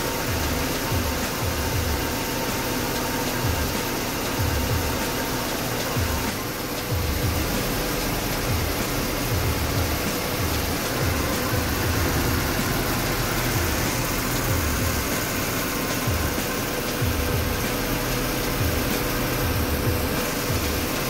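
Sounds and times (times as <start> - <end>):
air conditioning blower: 0.0 - 21.0
car engine idling: 0.0 - 21.0.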